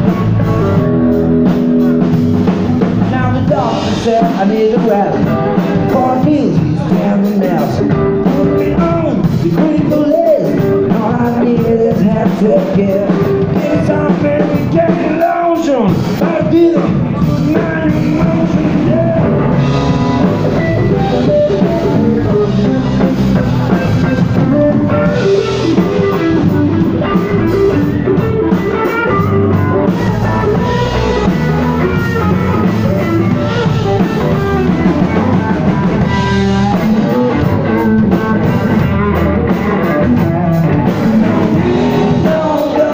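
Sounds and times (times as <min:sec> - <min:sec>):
bass guitar: 0:00.0 - 0:42.9
drum kit: 0:00.0 - 0:42.9
electric guitar: 0:00.0 - 0:42.9
person singing: 0:02.5 - 0:42.9.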